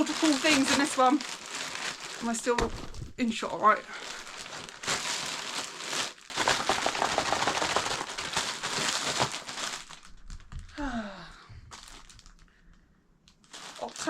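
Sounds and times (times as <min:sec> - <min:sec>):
packaging crinkling and rustling: 0:00.0 - 0:11.0, 0:11.7 - 0:14.0.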